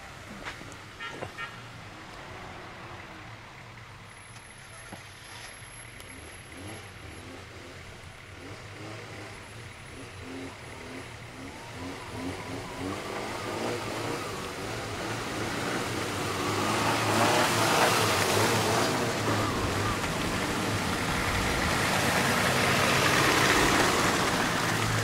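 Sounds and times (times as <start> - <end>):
off-road vehicle engines: 0.0 - 25.0.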